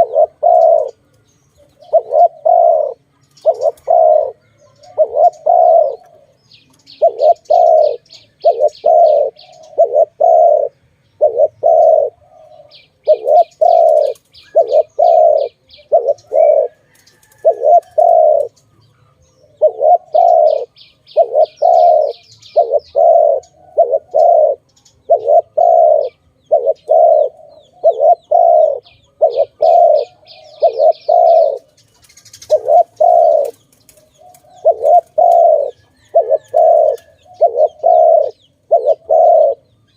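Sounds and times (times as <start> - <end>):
bird high chirps: 0.0 - 39.9
dove cooing: 0.0 - 39.9.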